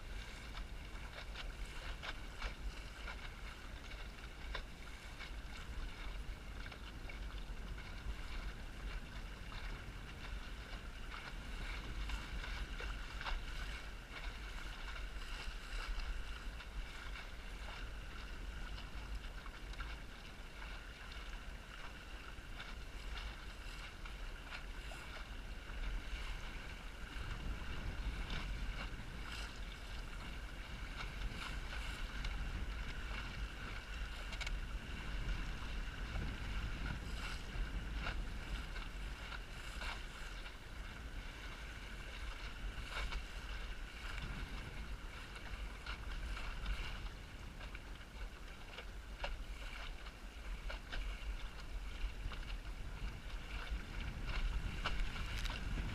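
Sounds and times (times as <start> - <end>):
water slapping against hull: 0.0 - 55.9
wind buffeting microphone: 0.0 - 55.9.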